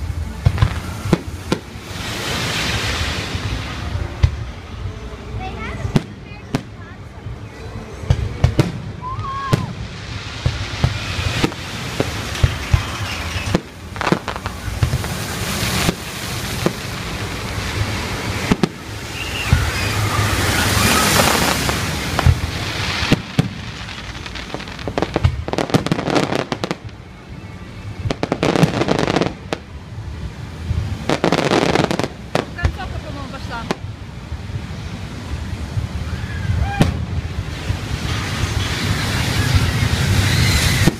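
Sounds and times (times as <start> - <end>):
firework bangs: 0.0 - 4.6, 5.5 - 6.8, 8.0 - 27.1, 27.8 - 40.9
fireworks crackling: 0.0 - 40.9.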